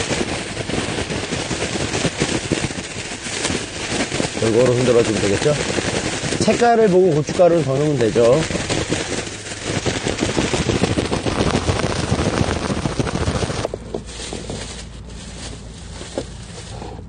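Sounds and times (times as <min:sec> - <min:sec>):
plastic bag crinkling when shaken: 0:00.0 - 0:16.9
plastic bag rustling: 0:00.0 - 0:17.0.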